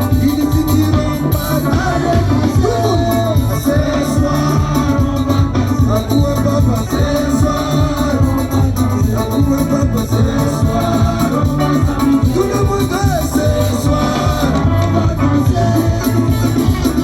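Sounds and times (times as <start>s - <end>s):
band with drums and bass: 0.0s - 17.0s
voices singing: 0.0s - 17.0s.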